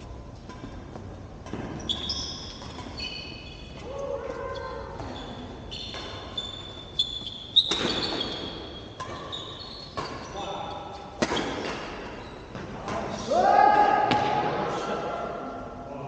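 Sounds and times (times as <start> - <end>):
shoes squeaking on court floor: 0.0 - 13.0.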